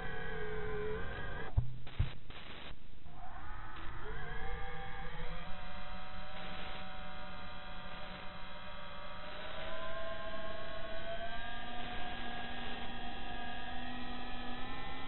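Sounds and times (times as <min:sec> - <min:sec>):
drone motors whining: 0:00.0 - 0:01.6, 0:03.1 - 0:15.0.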